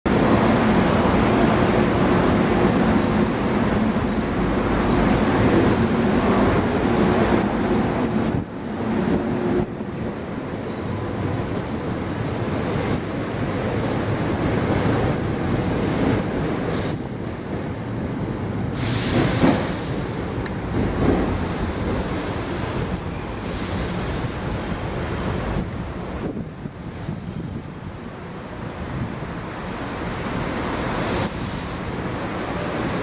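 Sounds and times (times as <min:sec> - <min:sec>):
train wheels rumbling on tracks: 0:00.1 - 0:33.0.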